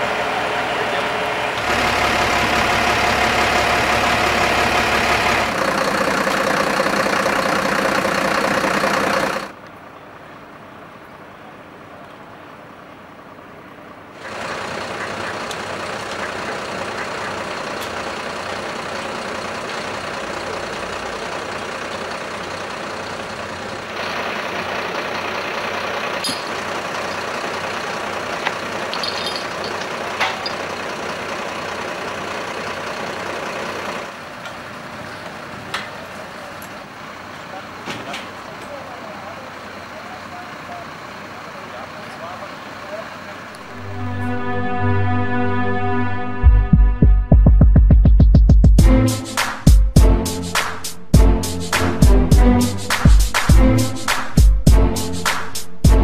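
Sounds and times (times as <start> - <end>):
diesel engines idling: 0.0 - 46.4, 48.8 - 56.0.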